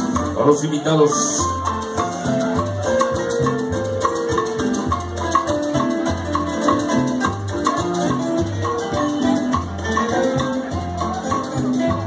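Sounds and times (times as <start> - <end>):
salsa music over sound system: 0.0 - 12.0.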